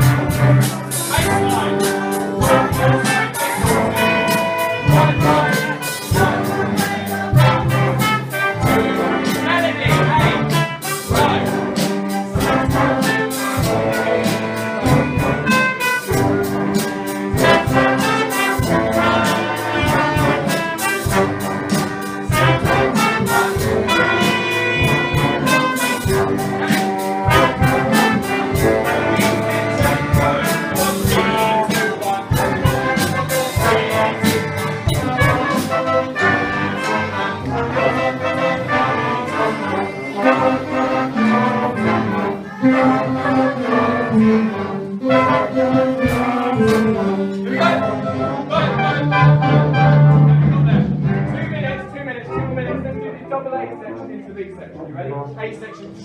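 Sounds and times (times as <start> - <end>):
school ensemble playing a tune: 0.0 - 56.0.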